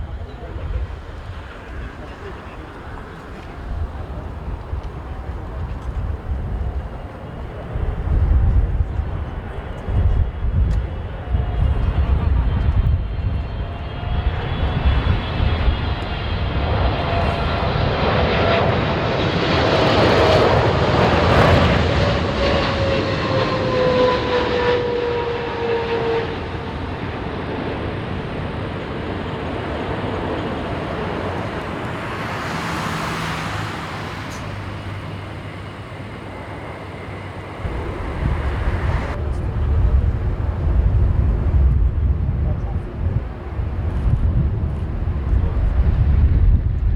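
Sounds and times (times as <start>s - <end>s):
jet airliner passing: 0.0s - 46.9s
wind buffeting microphone: 0.0s - 46.9s.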